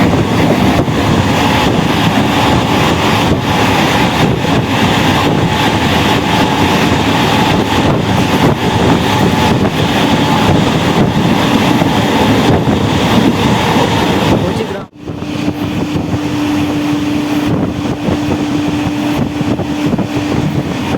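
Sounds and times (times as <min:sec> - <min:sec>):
train rumble and air rush: 0:00.0 - 0:20.9.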